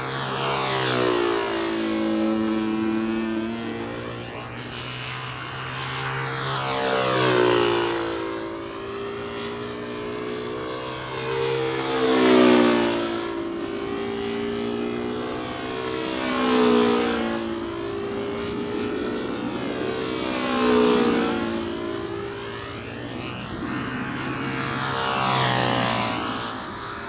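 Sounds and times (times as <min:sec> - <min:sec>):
model aircraft engine buzzing: 0:00.0 - 0:27.0.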